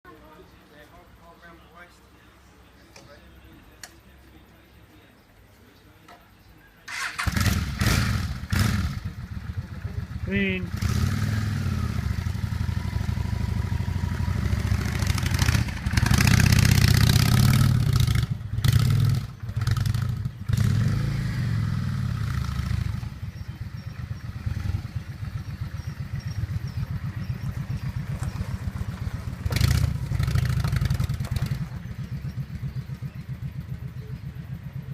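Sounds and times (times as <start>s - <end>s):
motorbike engine revving and idling: 6.9s - 34.9s.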